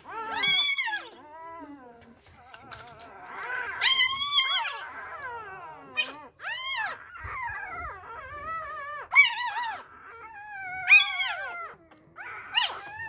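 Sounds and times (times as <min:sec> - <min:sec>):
puppy crying: 0:00.0 - 0:13.0.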